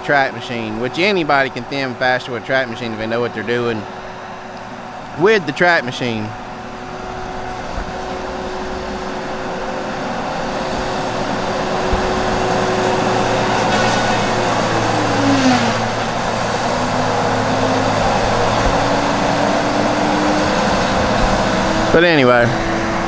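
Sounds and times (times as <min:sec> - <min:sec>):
diesel engine running: 0:00.0 - 0:23.0
machine whine dropping in pitch: 0:00.0 - 0:23.0.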